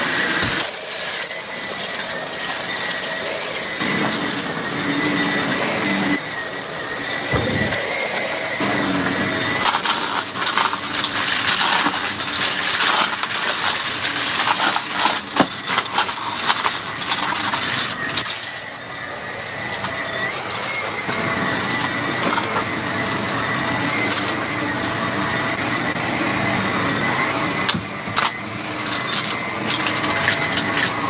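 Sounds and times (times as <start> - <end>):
vacuum motor whine: 0.0 - 31.0.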